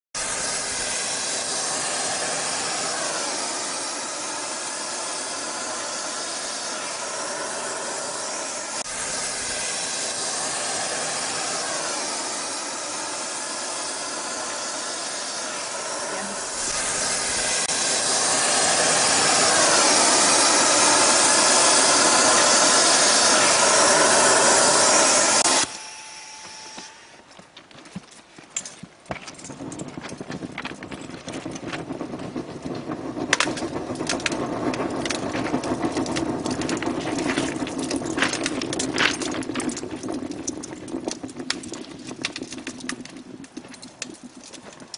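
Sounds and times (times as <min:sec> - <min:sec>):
thermite welding hiss: 0:00.2 - 0:27.2, 0:29.1 - 0:44.9.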